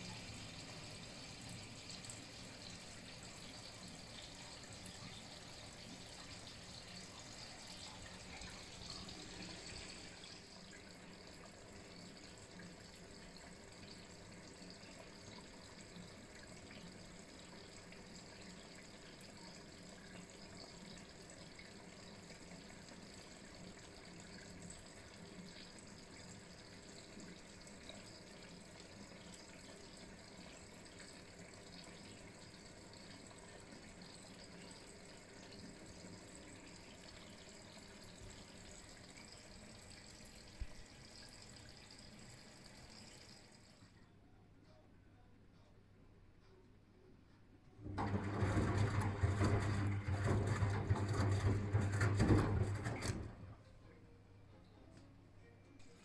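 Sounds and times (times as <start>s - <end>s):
washing machine water sloshing: 0.0s - 43.7s, 47.8s - 53.6s.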